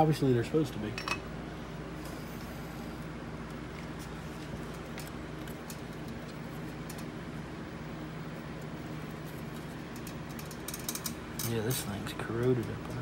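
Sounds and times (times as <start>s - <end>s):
bench equipment humming: 0.0s - 13.0s.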